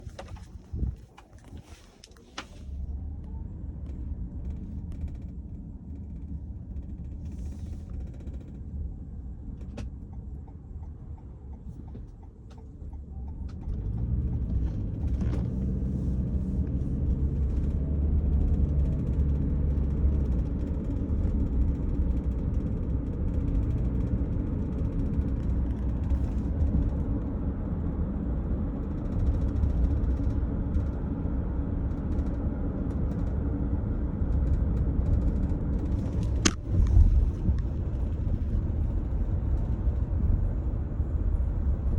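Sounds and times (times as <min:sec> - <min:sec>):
road and engine rumble in car: 0:00.0 - 0:41.9.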